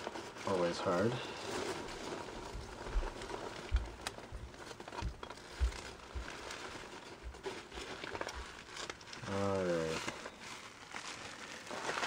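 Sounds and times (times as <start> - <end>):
packing material rustling: 0.0 - 12.0.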